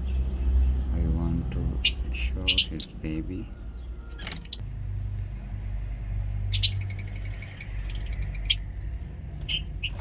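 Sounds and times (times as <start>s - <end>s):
lovebirds chirping: 0.0s - 5.0s, 6.3s - 10.0s.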